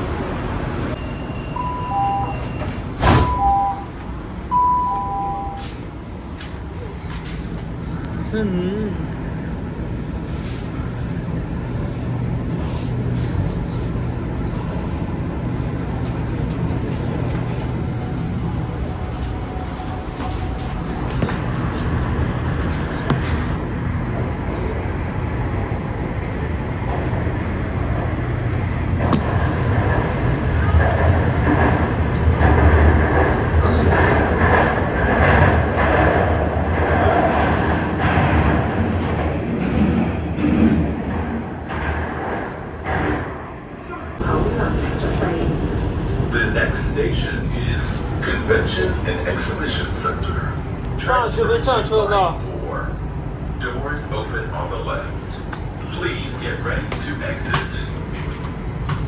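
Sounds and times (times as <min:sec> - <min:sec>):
train rumble inside carriage: 0:00.0 - 0:59.0.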